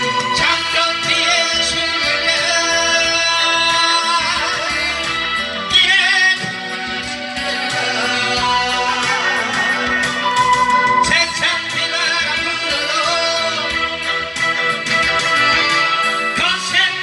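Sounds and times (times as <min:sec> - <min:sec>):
band accompaniment: 0:00.0 - 0:17.0
person singing with vibrato: 0:00.0 - 0:17.0.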